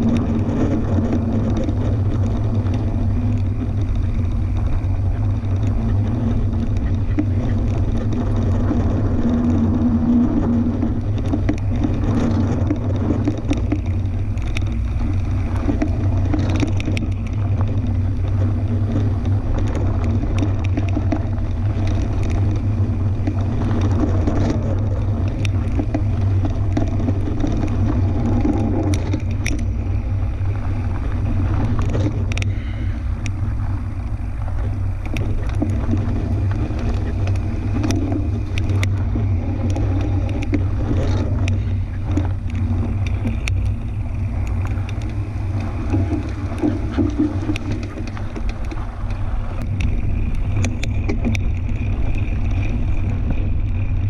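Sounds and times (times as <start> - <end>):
bike clicks and rattles: 0.0 - 54.0
bike riding rumble on dirt: 0.0 - 54.0.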